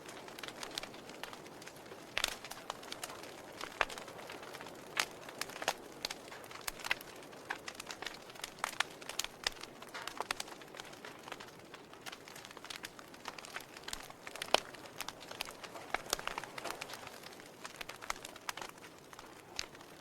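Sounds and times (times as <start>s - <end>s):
logs crackling in fireplace: 0.0s - 20.0s
soft hiss of fire: 0.0s - 20.0s.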